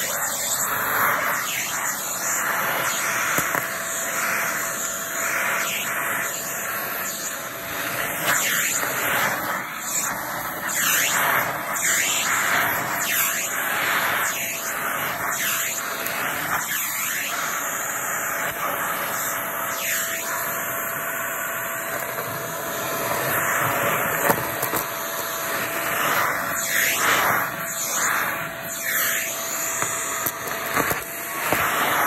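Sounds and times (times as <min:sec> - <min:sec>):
vacuum cleaner sucking debris: 0:00.0 - 0:32.0.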